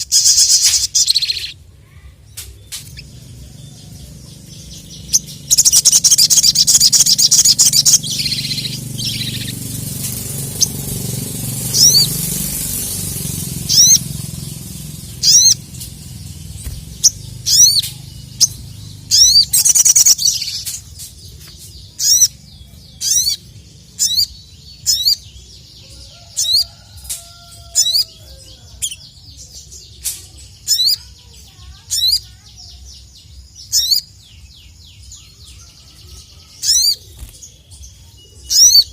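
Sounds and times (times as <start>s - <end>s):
sunbird calling: 0.0s - 38.9s.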